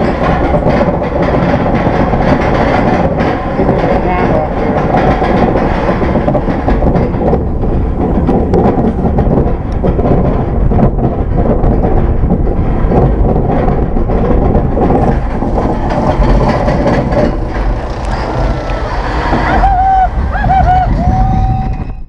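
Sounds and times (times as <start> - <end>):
roller coaster rattling rumble: 0.0 - 22.0
wind buffeting microphone: 0.0 - 22.0.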